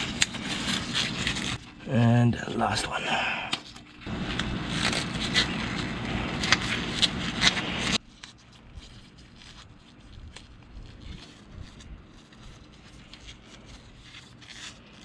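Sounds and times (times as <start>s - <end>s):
plastic cover scraping and rustling: 0.0s - 1.8s, 3.6s - 15.0s.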